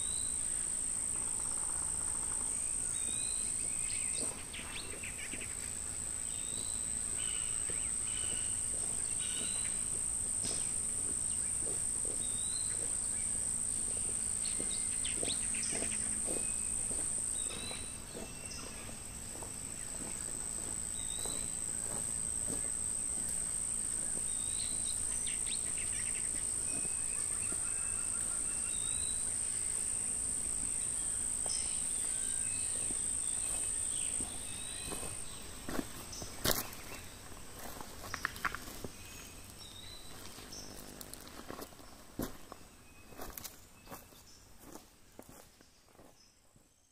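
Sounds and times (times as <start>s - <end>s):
high-pitched insect drone: 0.0s - 45.3s.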